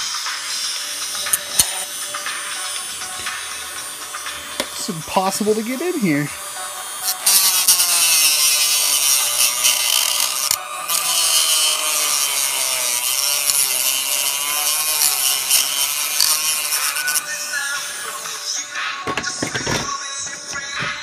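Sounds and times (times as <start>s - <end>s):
rotary tool grinding plastic: 0.0s - 21.0s.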